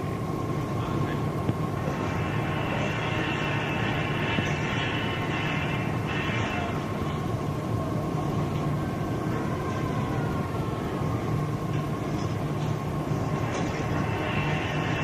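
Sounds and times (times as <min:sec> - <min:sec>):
constant whine: 0:00.0 - 0:15.0
machinery running: 0:00.0 - 0:15.0.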